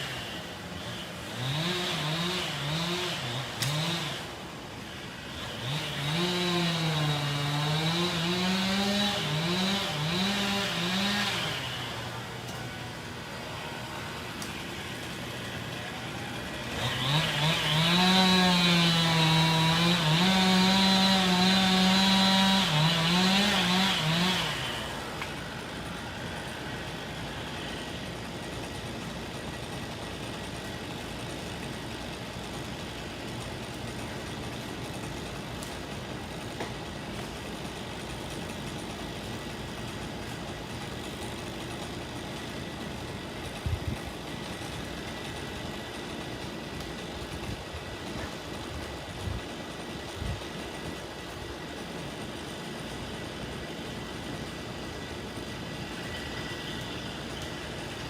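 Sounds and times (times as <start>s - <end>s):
chainsaw cutting: 0.0s - 58.0s
steady engine hum: 0.0s - 58.0s.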